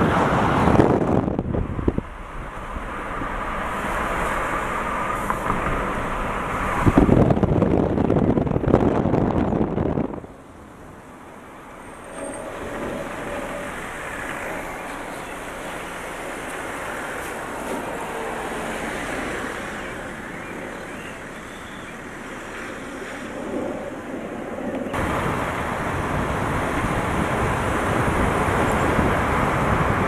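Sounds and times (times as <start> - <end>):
passing cars: 0.0 - 30.0.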